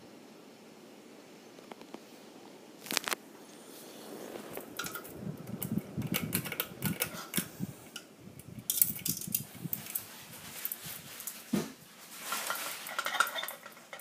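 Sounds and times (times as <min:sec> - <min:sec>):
ceiling fan running: 0:00.0 - 0:14.0.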